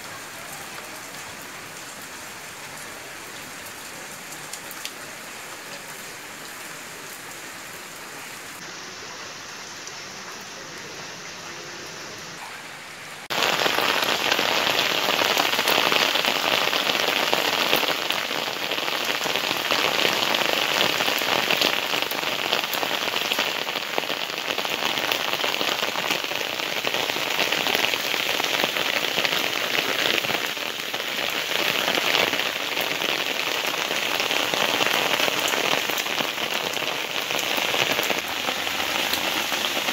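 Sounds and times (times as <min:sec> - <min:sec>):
rain pattering on paving and pots: 0:00.0 - 0:39.9.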